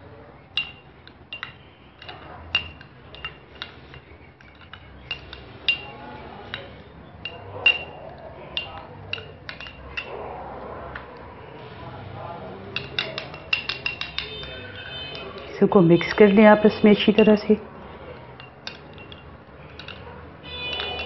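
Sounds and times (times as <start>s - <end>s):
spoon clinking against glass bowl: 0.5s - 10.2s, 12.8s - 17.5s, 18.2s - 21.0s.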